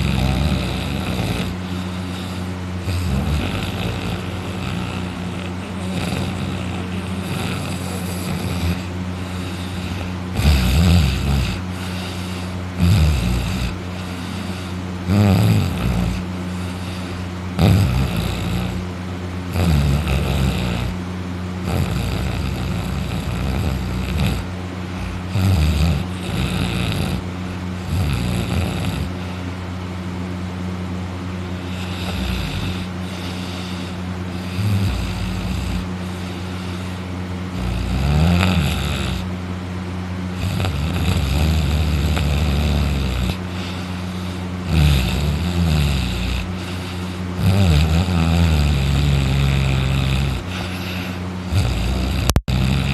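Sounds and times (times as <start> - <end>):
person snoring loudly: 0.0 - 21.0, 21.6 - 29.5, 31.6 - 39.4, 40.3 - 52.9
steady low hum: 0.0 - 52.9.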